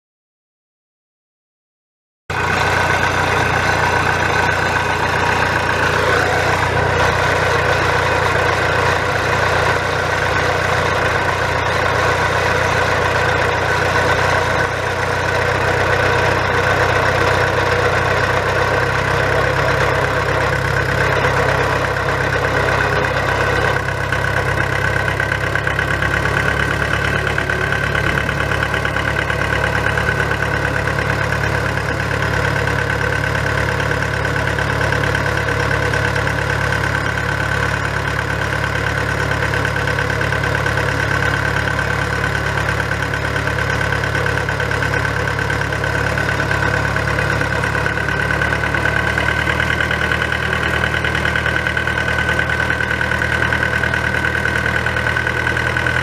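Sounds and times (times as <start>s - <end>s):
diesel engine idling: 2.3s - 56.0s.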